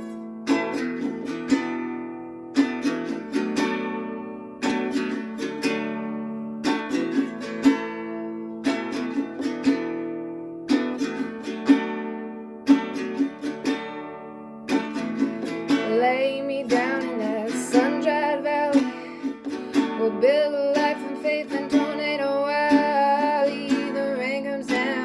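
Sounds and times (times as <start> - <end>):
acoustic string instrument strumming: 0.0 - 25.0.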